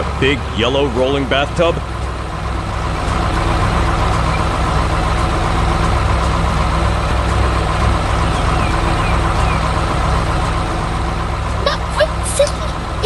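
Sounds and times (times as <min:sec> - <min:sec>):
heavy truck engine rumbling: 0:00.0 - 0:13.0.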